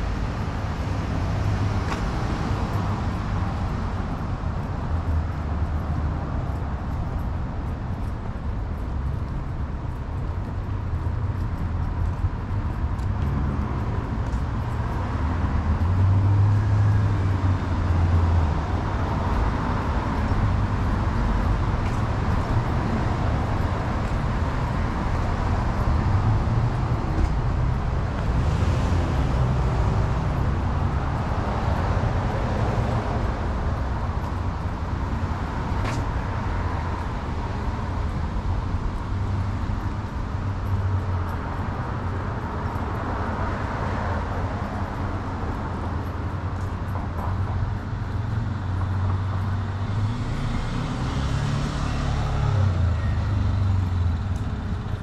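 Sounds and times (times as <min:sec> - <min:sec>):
street traffic rumble: 0:00.0 - 0:55.0
vehicles passing: 0:00.0 - 0:55.0.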